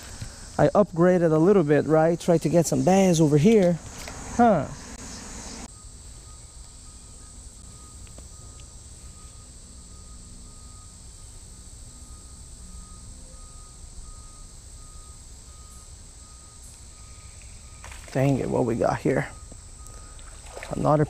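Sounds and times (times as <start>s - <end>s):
insects droning: 0.0s - 21.0s
low pulsing insect tone: 0.0s - 21.0s.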